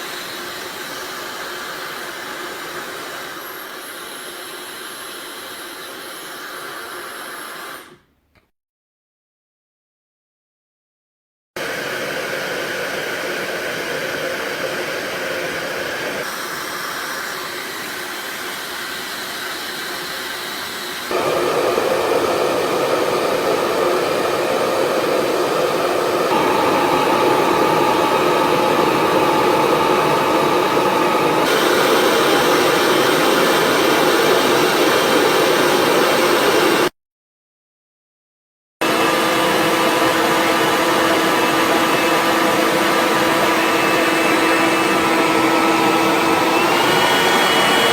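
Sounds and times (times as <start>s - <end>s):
hair dryer running: 0.0s - 8.0s, 11.6s - 36.9s, 38.8s - 47.9s.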